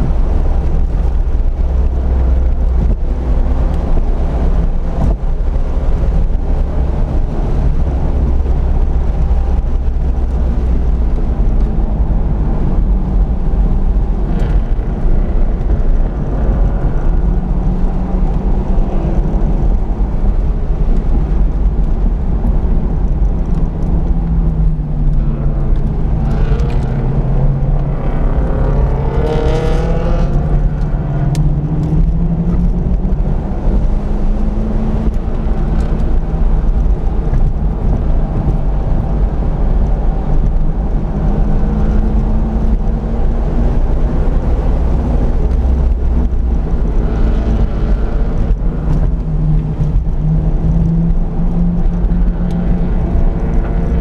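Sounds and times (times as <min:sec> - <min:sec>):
car engine revving: 0:00.0 - 0:54.0
low road rumble: 0:00.0 - 0:54.0.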